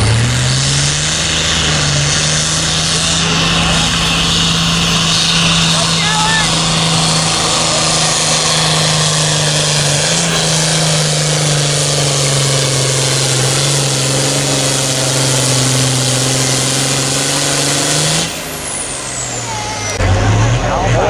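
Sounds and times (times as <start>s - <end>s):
tractor engine at full throttle: 0.0s - 21.0s.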